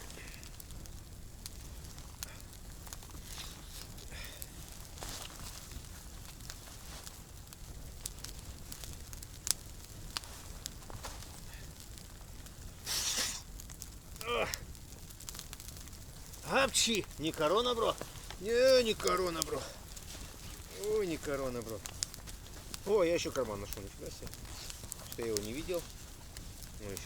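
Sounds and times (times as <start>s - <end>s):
campfire crackling: 0.0s - 27.0s
fire popping: 0.0s - 27.0s.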